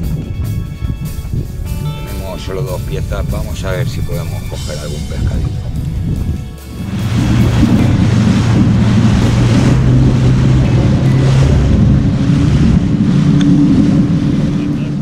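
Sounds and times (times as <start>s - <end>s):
boat engine hum: 0.0s - 15.0s
wind on microphone: 0.0s - 15.0s
rushing water: 1.3s - 15.0s.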